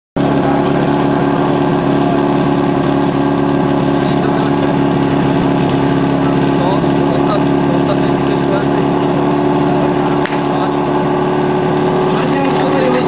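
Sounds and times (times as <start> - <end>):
pump engine idling: 0.2 - 13.0.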